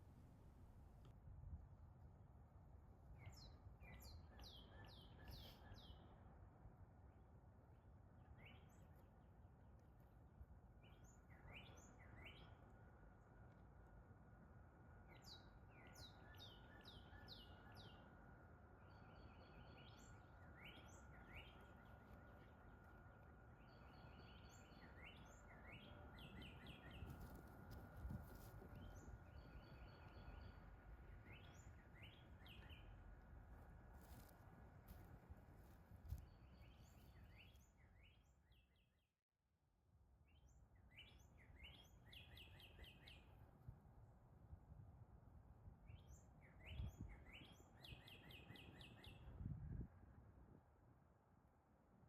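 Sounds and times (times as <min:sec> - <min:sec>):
songbirds chirping: 0:02.4 - 0:39.1, 0:40.1 - 0:51.7.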